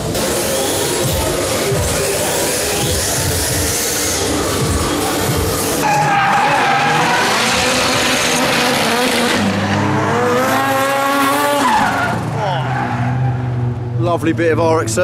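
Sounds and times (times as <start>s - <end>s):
tyres squealing and skidding: 0.0s - 13.8s
car engine revving hard: 0.0s - 13.9s.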